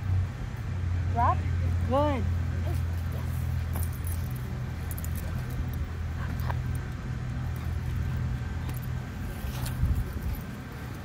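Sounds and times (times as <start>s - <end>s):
generator engine humming: 0.0s - 11.0s.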